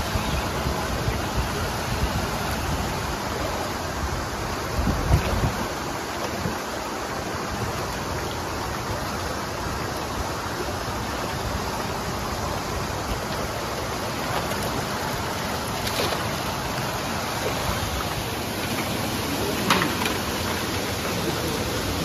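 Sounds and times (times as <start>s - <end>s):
faint water splashes: 0.0s - 22.0s
water rushing in pond: 0.0s - 22.0s.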